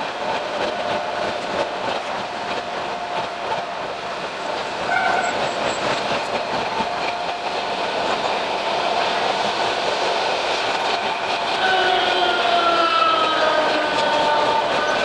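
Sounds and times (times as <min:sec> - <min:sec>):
train wheels clattering on track: 0:00.0 - 0:15.0.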